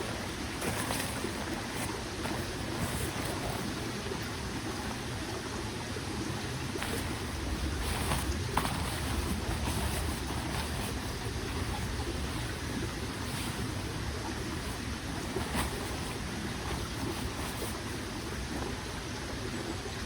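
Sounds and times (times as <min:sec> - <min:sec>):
mountain stream flowing: 0:00.0 - 0:20.0.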